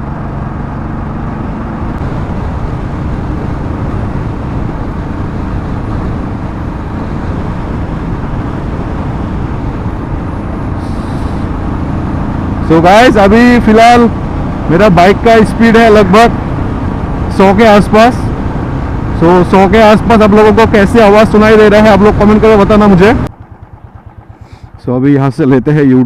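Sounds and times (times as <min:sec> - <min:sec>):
wind rush in helmet: 0:00.0 - 0:24.4
motorcycle engine: 0:00.0 - 0:26.0
road noise: 0:00.0 - 0:26.0.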